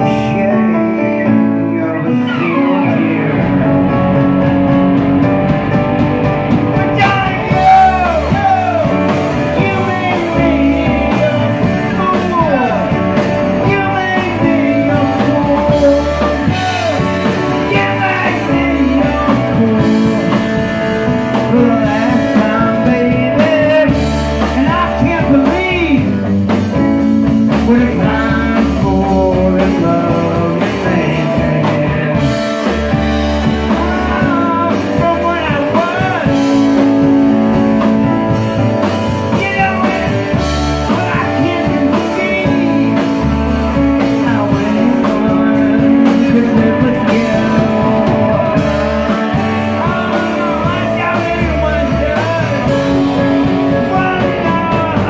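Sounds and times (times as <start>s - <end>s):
man singing: 0.0s - 5.0s, 6.4s - 55.0s
bass guitar: 0.0s - 55.0s
drum kit: 0.0s - 55.0s
electric guitar: 0.0s - 55.0s
keyboard: 0.0s - 55.0s.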